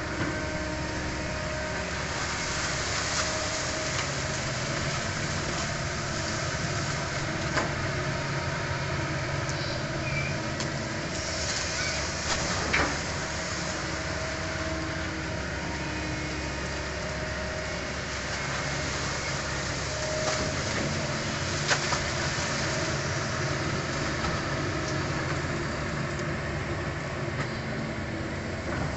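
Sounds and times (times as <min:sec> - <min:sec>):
excavator diesel engine: 0:00.0 - 0:28.9.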